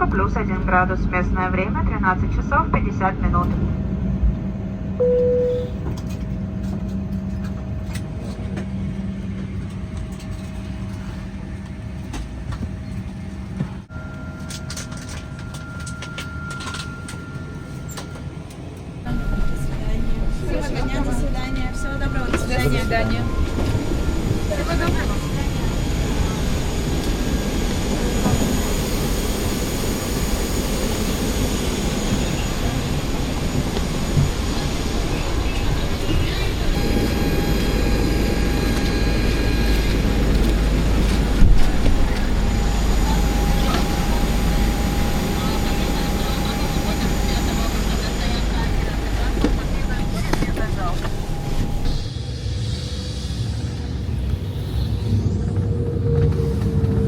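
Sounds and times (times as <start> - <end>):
aircraft cabin rumble and hum: 0.0 - 52.4, 53.1 - 57.0.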